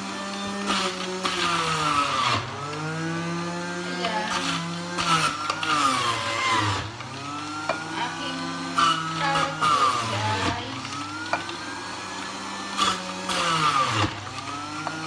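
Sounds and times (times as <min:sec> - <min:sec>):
cutter grinding carrots: 0:00.0 - 0:15.0
juicer motor humming: 0:00.0 - 0:15.0.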